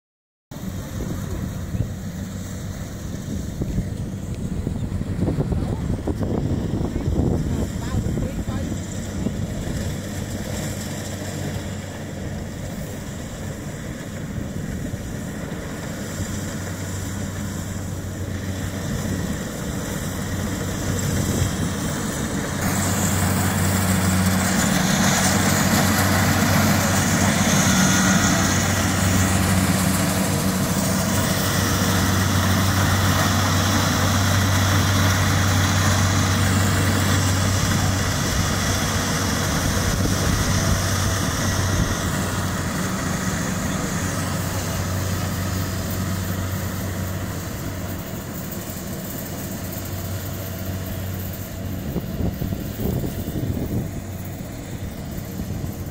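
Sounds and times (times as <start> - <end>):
combine harvester engine humming: 0.5 - 55.9.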